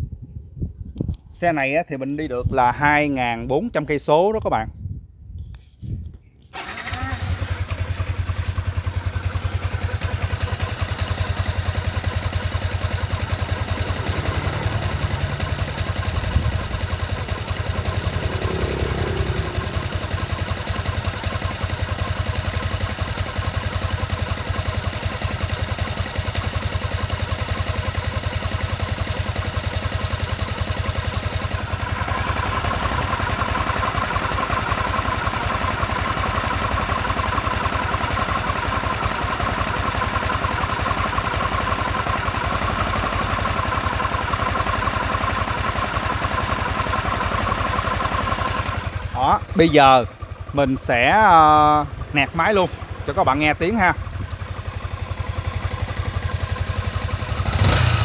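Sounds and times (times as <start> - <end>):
motorcycle engine idling: 6.6 - 58.0.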